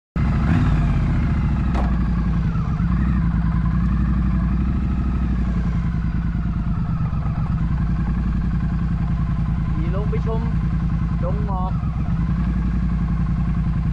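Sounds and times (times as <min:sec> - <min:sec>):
motorcycle engine running: 0:00.2 - 0:13.9.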